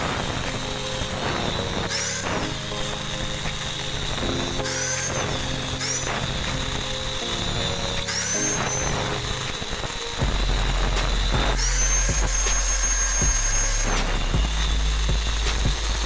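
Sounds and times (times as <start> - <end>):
angle grinder cutting metal: 0.0 - 16.0
background music: 0.0 - 16.0.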